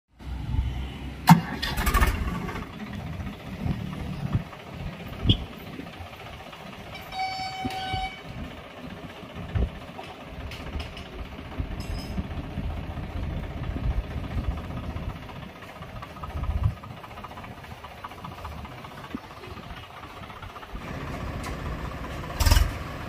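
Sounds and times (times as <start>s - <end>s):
tractor diesel engine: 0.1s - 23.0s.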